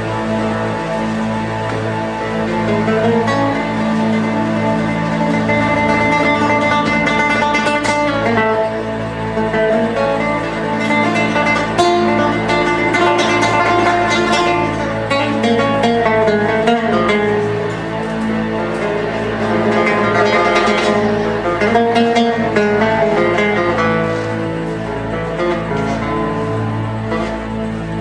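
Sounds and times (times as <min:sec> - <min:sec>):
acoustic guitar plucked melody: 0:00.0 - 0:28.0
steady low drone: 0:00.0 - 0:28.0.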